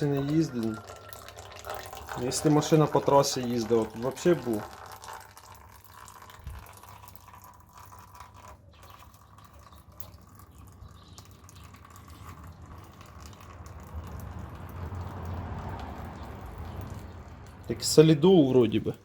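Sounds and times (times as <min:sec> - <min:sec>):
oil trickling and dripping: 0:00.0 - 0:19.0.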